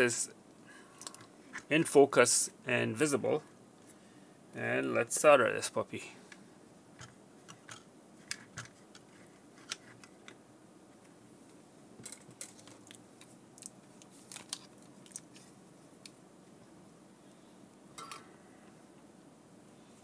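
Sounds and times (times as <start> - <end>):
low room hiss: 0.0 - 20.0.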